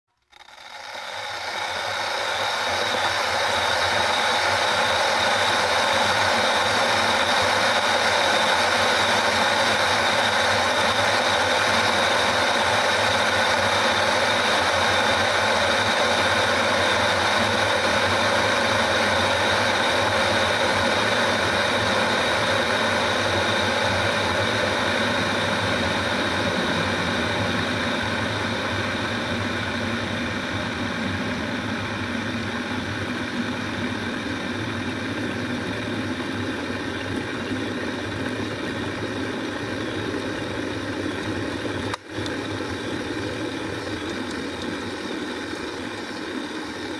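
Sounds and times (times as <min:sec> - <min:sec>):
kettle water rumbling hiss: 0:00.2 - 0:46.9.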